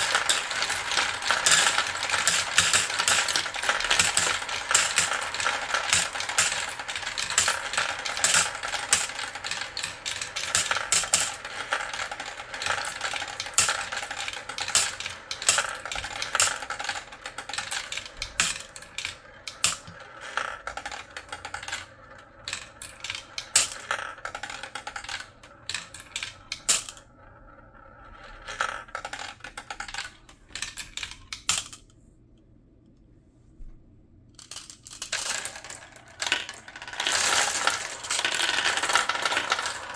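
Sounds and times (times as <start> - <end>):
marbles clattering in plastic run: 0.0 - 31.8, 34.4 - 39.9.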